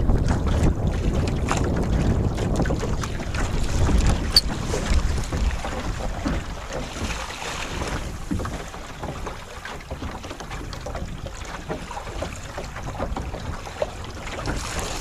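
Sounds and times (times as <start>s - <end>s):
water rushing along boat hull: 0.0s - 15.0s
wind rumbling on microphone: 0.0s - 15.0s.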